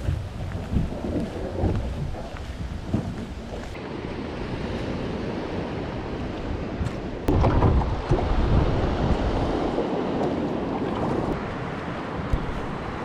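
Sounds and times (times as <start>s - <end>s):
moving water: 0.0s - 13.0s
wind on microphone: 0.0s - 13.0s.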